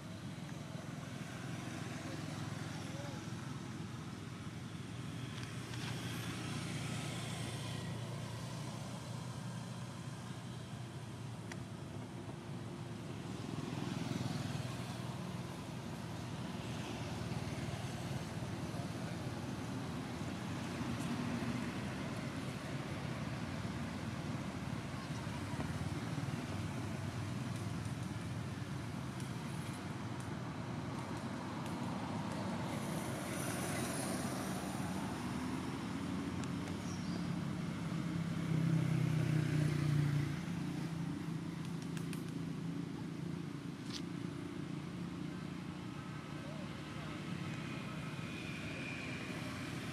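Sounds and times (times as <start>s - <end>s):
distant road traffic rumble: 0.0s - 49.9s
vehicle engine drone: 0.0s - 49.9s.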